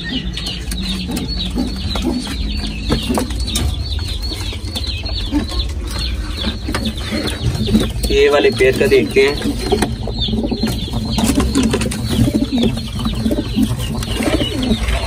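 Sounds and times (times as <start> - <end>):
low rumble: 0.0 - 15.0
small birds chirping: 0.0 - 15.0.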